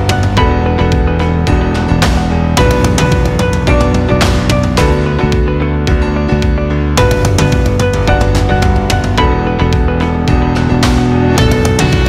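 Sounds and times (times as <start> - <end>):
loud instrumental music: 0.0 - 12.0.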